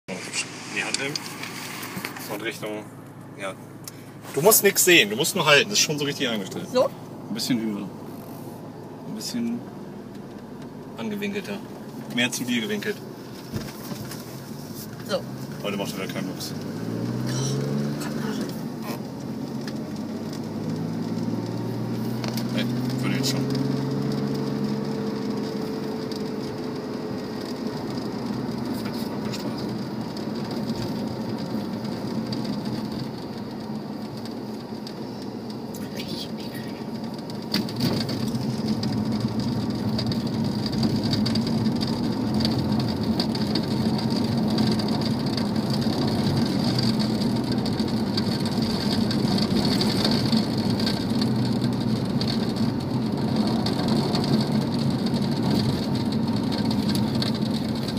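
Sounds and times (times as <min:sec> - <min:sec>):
road noise: 0:00.0 - 0:57.9
car engine running in cabin: 0:00.1 - 0:57.9.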